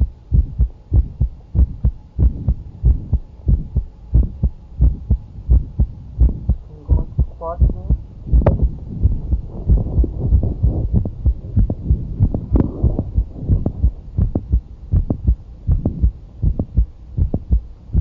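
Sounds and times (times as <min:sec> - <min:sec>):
heart click: 0:00.0 - 0:18.0
heartbeat through stethoscope: 0:00.0 - 0:18.0.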